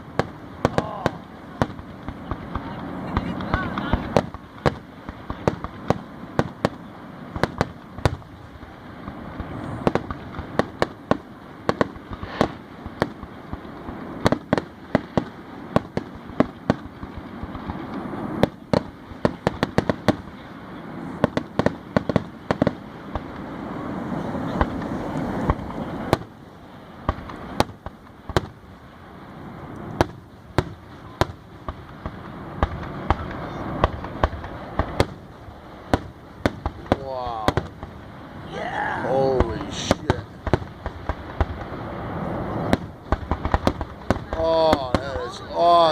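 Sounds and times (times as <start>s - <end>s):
fireworks exploding bangs: 0.0s - 45.9s.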